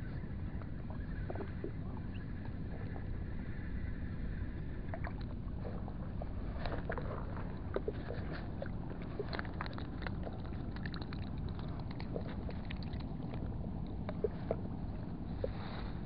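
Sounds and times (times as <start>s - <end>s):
low harbour rumble: 0.0s - 16.0s.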